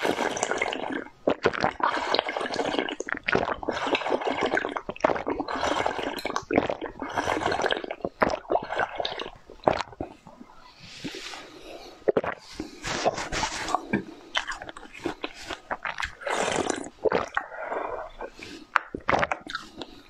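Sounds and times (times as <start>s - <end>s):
liquid slurping and gurgling: 0.0s - 20.0s.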